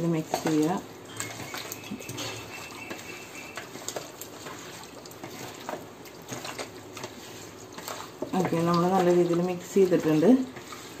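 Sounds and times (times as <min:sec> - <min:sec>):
hand kneading wet meat: 0:00.1 - 0:11.0.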